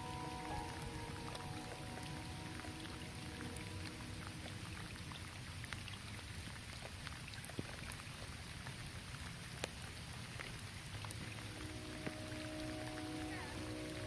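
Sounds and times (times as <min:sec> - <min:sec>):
light rain on a roof: 0:00.0 - 0:14.0
raindrops ticking: 0:00.0 - 0:14.0.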